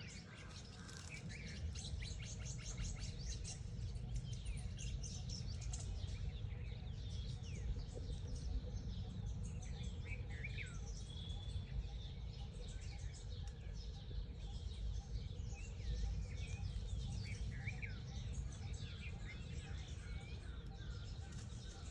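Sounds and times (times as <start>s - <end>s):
birds chirping and calling: 0.0s - 21.9s.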